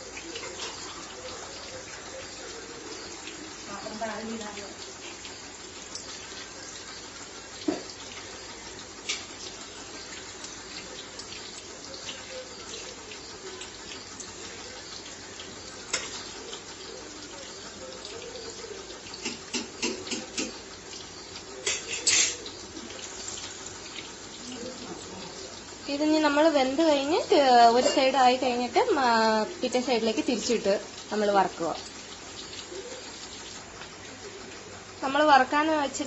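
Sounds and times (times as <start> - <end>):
chicken deep-frying in oil: 0.0 - 36.0
oil crackles and pops: 0.0 - 36.0.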